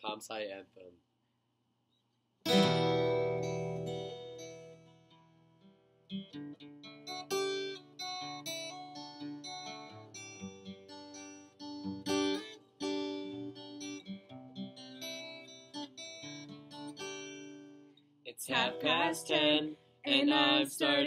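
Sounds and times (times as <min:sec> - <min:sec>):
acoustic guitar playing: 0:02.4 - 0:21.0.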